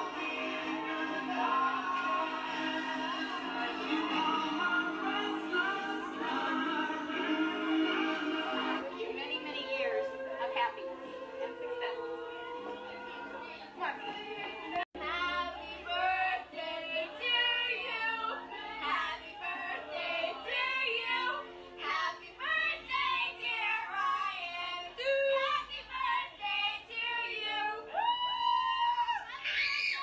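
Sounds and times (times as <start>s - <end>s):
music: 0.0s - 29.4s.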